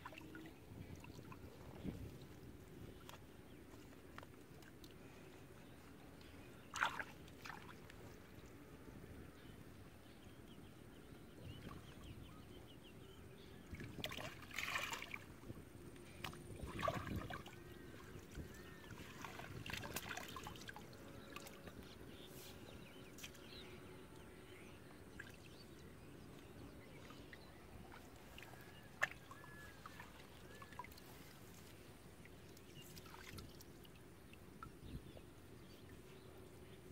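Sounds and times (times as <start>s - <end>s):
water splashing and sloshing: 0.0s - 8.6s, 13.7s - 23.6s, 25.1s - 36.2s.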